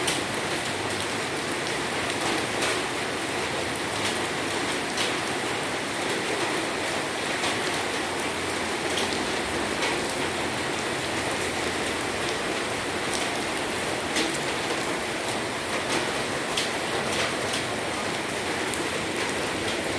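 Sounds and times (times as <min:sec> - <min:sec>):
rain pattering: 0:00.0 - 0:19.9.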